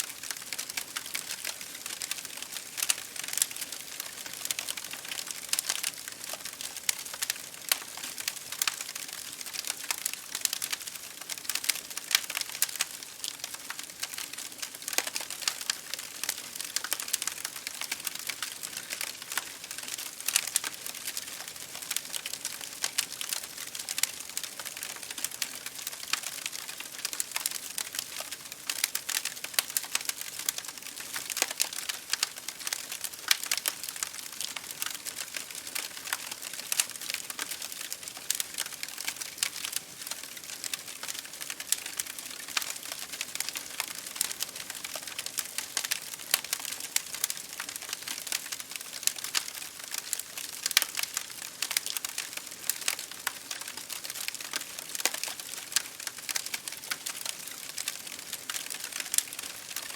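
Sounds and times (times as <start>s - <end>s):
rain pattering on window glass: 0.0s - 59.9s
wood crackling in fireplace: 0.0s - 59.9s.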